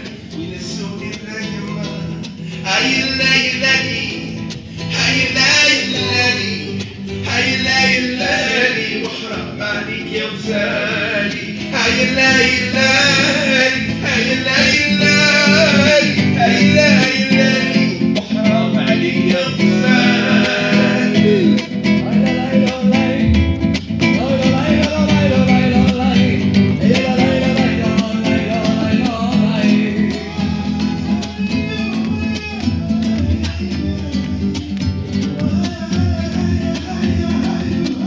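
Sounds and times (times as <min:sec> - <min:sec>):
acoustic guitar strumming: 0:00.0 - 0:38.0
man singing: 0:00.0 - 0:38.0.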